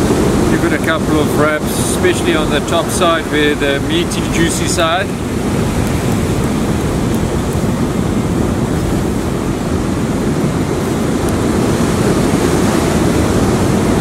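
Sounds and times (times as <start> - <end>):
surf washing on shore: 0.0 - 14.0
wind buffeting microphone: 0.0 - 14.0.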